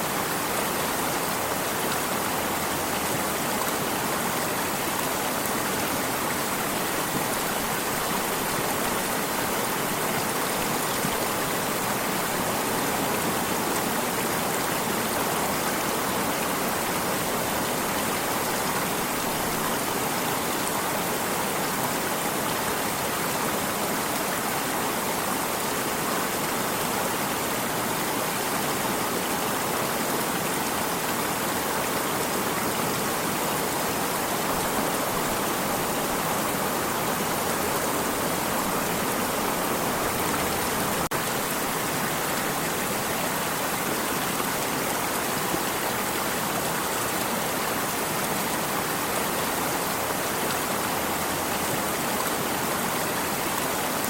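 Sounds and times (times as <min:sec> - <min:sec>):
water stream flowing: 0:00.0 - 0:54.0.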